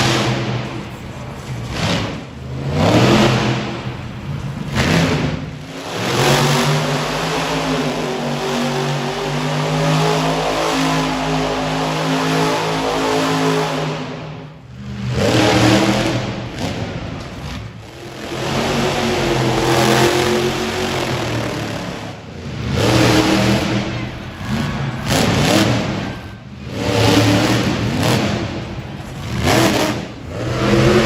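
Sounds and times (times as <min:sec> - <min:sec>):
truck engine revving hard: 0:00.0 - 0:31.0.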